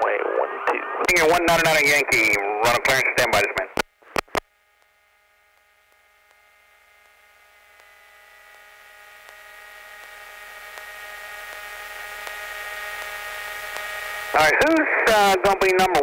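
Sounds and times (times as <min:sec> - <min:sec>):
electrical hum with tones: 0:00.0 - 0:16.0
faint buzz: 0:01.0 - 0:16.0.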